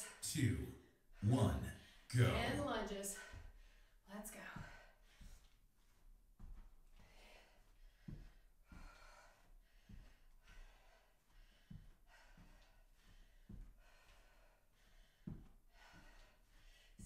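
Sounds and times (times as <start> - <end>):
woman breathing hard: 1.8 - 17.0.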